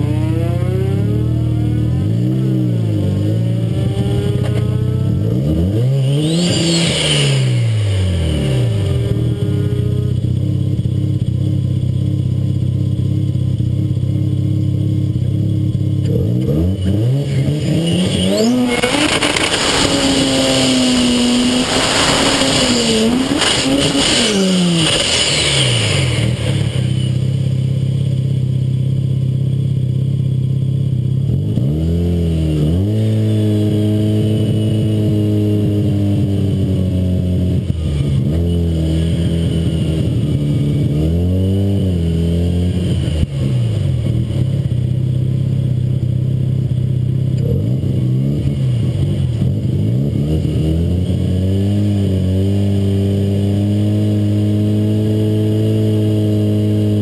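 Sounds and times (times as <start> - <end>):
drag car engine idling and revving: 0.0 - 57.0.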